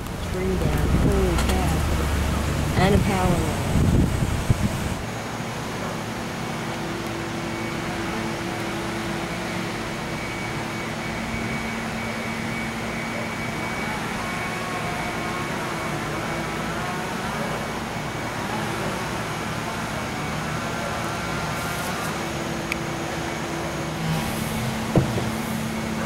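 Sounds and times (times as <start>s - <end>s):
outdoor background rush: 0.0s - 26.0s.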